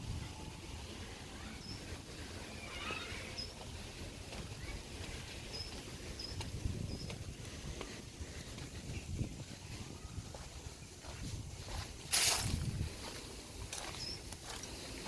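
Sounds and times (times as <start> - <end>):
small birds chirping: 0.2 - 12.0, 12.7 - 15.0.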